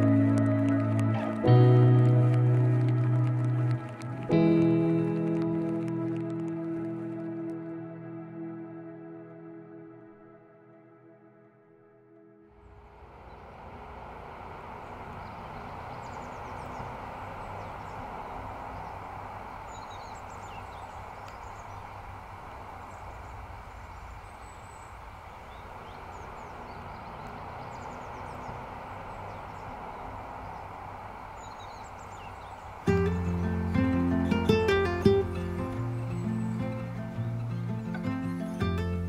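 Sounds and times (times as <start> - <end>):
steady outdoor hush: 0.0 - 9.9, 12.5 - 39.0.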